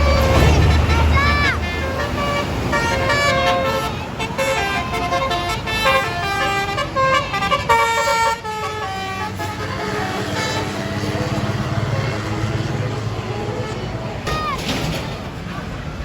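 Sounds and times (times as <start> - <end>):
multi-tone air horn melody: 0.0 - 14.3
bus engine rumble: 0.0 - 16.0.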